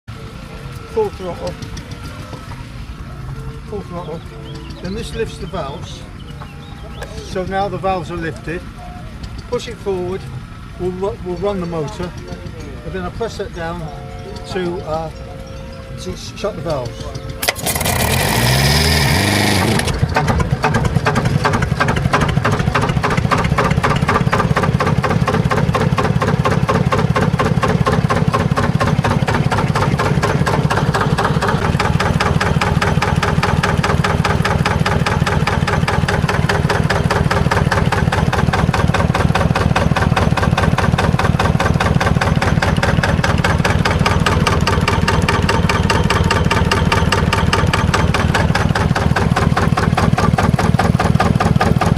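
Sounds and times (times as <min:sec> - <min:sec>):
diesel engine running: 0:00.1 - 0:51.9
diesel engine starter cranking: 0:00.1 - 0:51.9.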